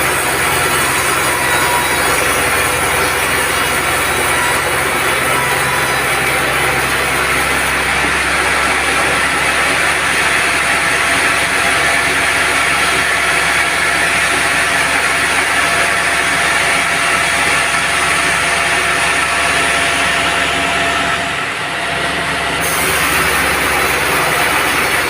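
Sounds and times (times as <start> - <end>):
band sawmill running: 0.0 - 25.0.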